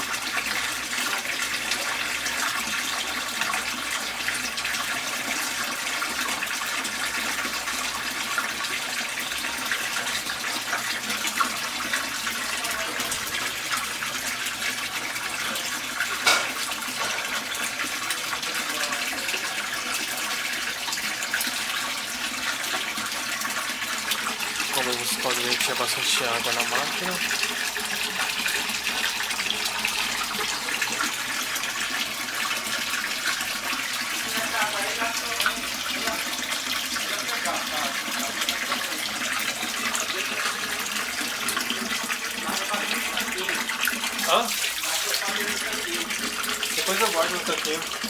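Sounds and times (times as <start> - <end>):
washing machine draining water: 0.0 - 48.0.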